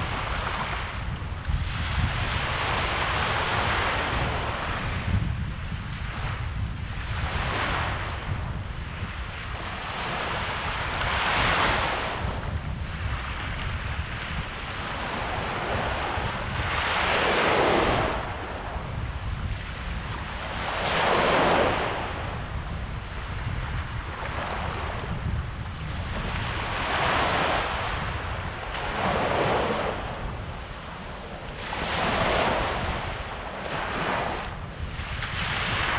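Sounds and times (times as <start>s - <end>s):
waves washing up a beach: 0.0s - 35.9s
wind rumble on microphone: 0.0s - 35.9s.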